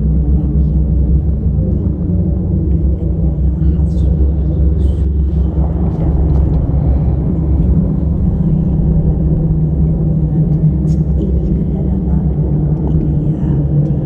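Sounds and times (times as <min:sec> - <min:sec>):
low drone tone: 0:00.0 - 0:14.0.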